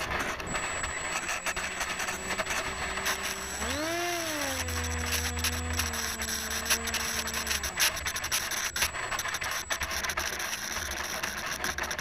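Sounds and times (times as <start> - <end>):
crackly scratching and rubbing: 0.0 - 12.0
electric motor and propeller humming: 0.0 - 12.0.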